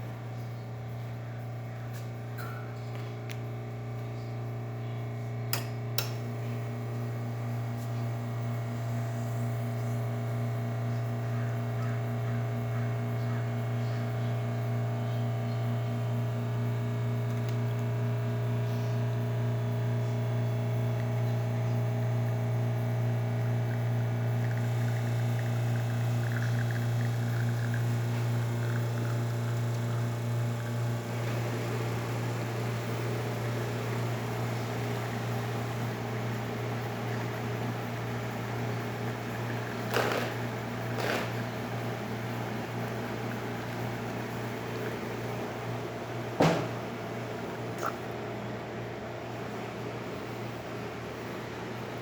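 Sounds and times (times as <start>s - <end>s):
espresso machine pump humming: 0.0s - 52.0s.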